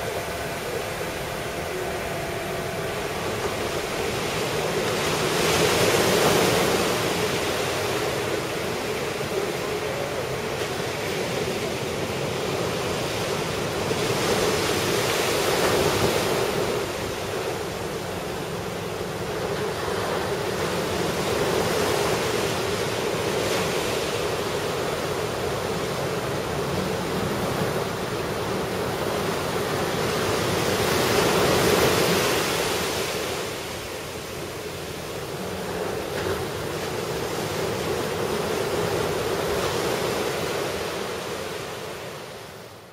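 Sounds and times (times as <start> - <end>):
ocean surf breaking: 0.0 - 42.9.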